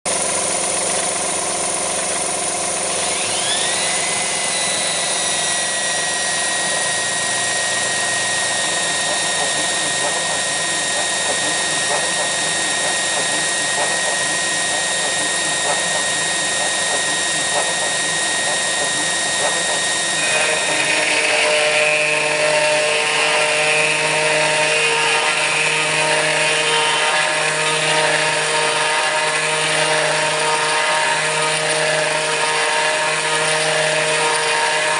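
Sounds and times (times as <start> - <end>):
cutter milling metal: 0.1 - 34.9
router spindle whining: 0.1 - 34.9.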